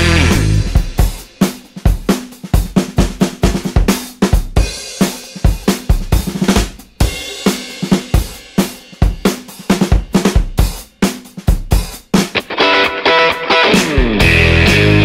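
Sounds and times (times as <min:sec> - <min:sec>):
fast drum-kit beat: 0:00.0 - 0:15.0.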